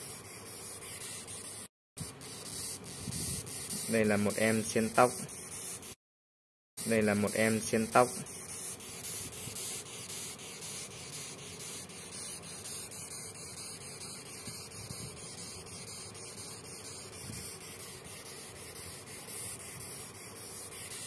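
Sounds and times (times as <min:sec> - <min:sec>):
beetle stridulating: 0:00.0 - 0:05.9, 0:06.8 - 0:21.0.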